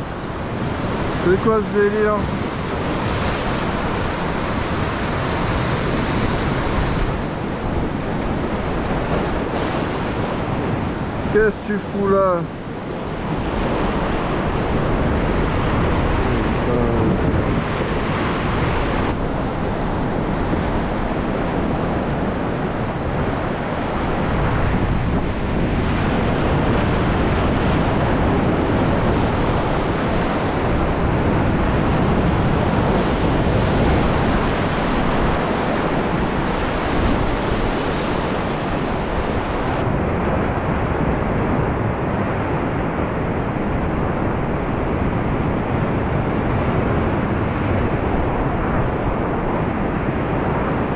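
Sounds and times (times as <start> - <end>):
surf breaking on rocky shore: 0.0 - 50.9
wind buffeting microphone: 0.0 - 50.9.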